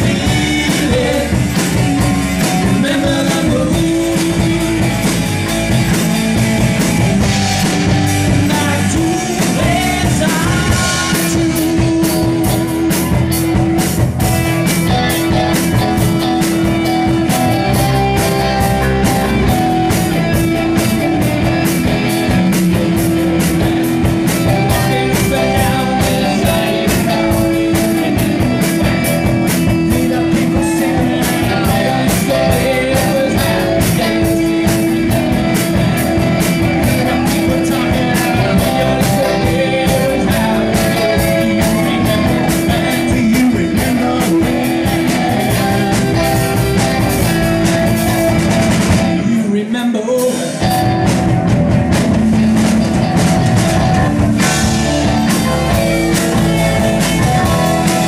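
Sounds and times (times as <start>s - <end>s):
bass guitar: 0.0s - 58.0s
drum kit with cymbal beat: 0.0s - 58.0s
electric guitars: 0.0s - 58.0s.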